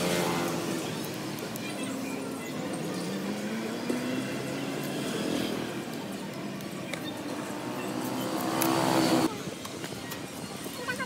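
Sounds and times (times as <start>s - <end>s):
low traffic hum: 0.0s - 11.0s.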